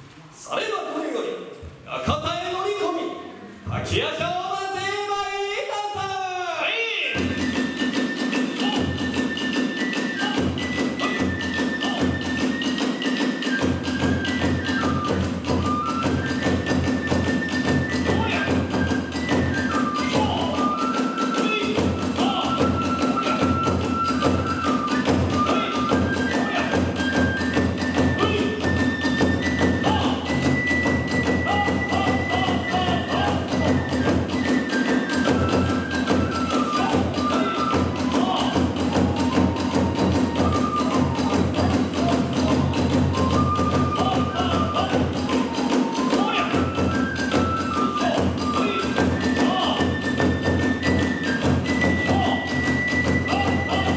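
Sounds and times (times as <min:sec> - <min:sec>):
bamboo flute melody: 0:07.1 - 0:53.9
rapid drum beats: 0:07.2 - 0:53.9.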